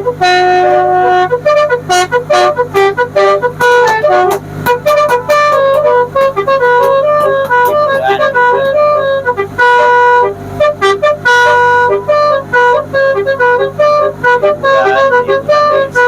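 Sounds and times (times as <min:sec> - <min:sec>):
musical horn playing a tune: 0:00.0 - 0:16.0
steady low hum: 0:00.0 - 0:16.0.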